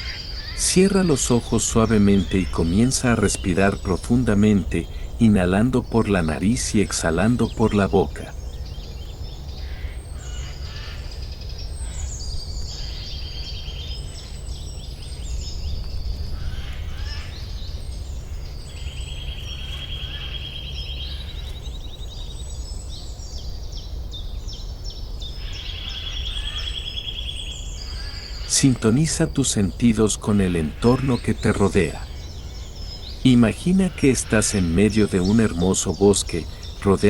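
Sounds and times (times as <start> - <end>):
birds singing: 0.0 - 37.0
low background rumble: 0.0 - 37.0
rapid bird trills: 0.0 - 37.0.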